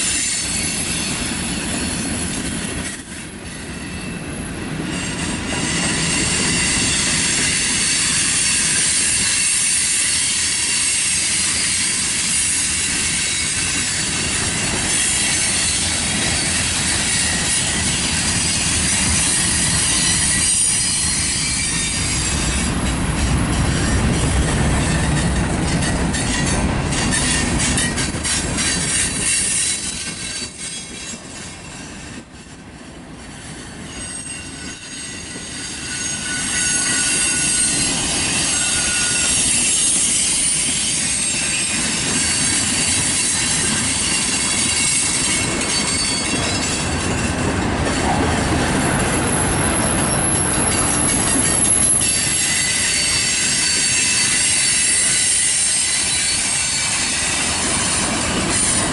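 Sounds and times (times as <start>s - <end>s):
high wheel squeal: 0.0s - 32.6s, 33.2s - 58.9s
train wheels rumbling on rails: 0.0s - 58.9s.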